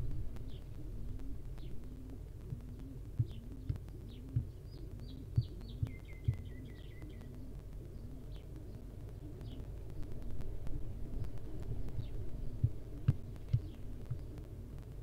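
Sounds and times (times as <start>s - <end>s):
birds chirping: 0.0s - 15.0s
low pulsing hum: 0.0s - 15.0s
owl chick hopping on wood: 0.4s - 8.2s, 8.8s - 14.7s.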